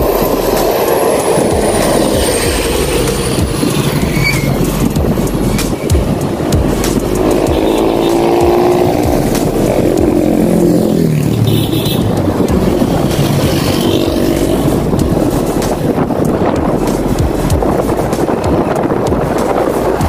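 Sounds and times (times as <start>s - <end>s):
road noise rumble: 0.0s - 20.0s
vehicle engines passing: 0.0s - 20.0s.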